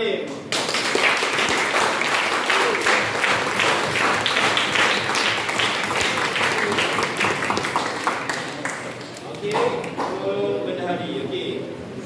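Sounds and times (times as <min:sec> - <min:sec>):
group applauding: 0:00.4 - 0:10.2.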